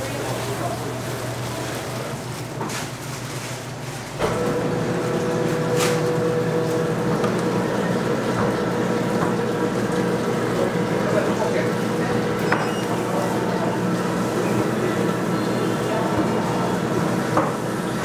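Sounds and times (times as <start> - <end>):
kitchen machine hum: 0.0 - 18.0.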